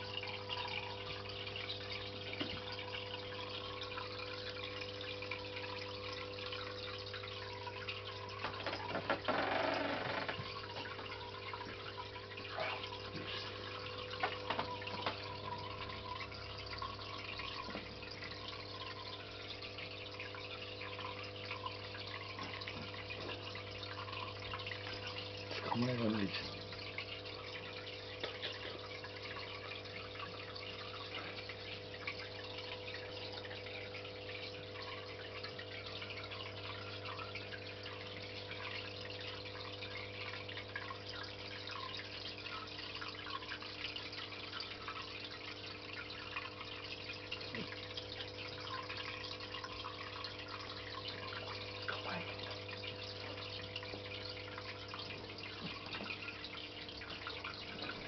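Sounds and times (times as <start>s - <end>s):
aquarium pump humming: 0.0s - 58.0s
water trickling and dripping: 0.0s - 58.0s.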